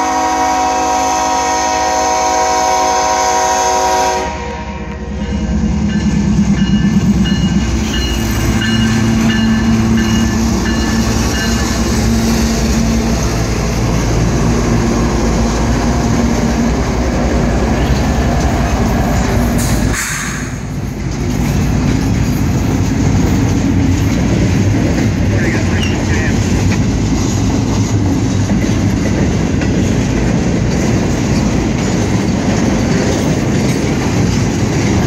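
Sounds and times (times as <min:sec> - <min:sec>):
diesel locomotive engines droning: 0:00.0 - 0:35.0
train wheels clattering on rails: 0:04.9 - 0:35.0.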